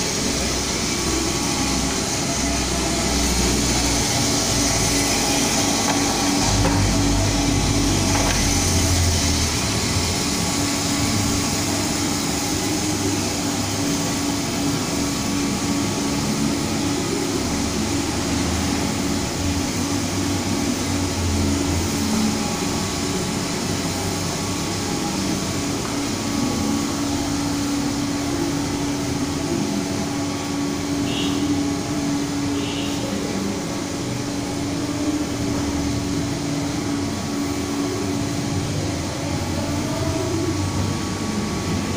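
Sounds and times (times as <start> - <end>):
coffee roaster machine whirring: 0.0 - 41.9.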